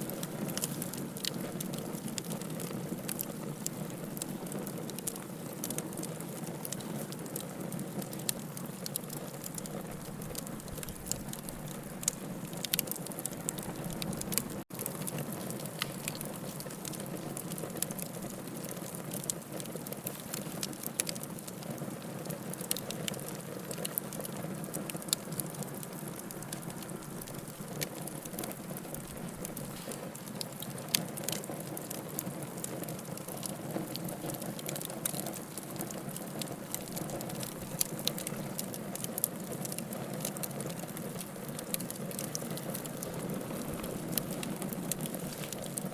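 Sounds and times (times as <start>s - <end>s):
bonfire flames hissing: 0.0s - 45.9s
burning wood crackling: 0.0s - 45.9s.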